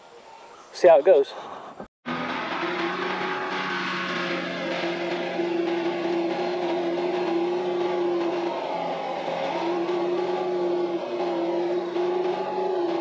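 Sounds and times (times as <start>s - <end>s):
steady whine: 2.1s - 13.0s
tractor diesel engine running: 2.1s - 13.0s.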